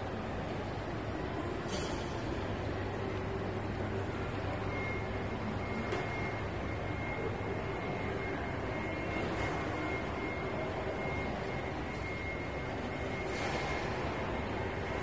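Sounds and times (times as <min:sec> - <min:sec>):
faint steady high tone: 0:00.0 - 0:15.0
shopping mall background hum: 0:00.0 - 0:15.0.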